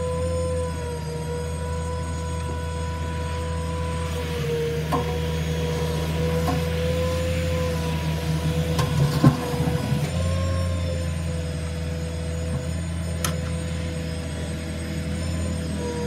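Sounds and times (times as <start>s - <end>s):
tow truck engine drone: 0.0s - 16.0s.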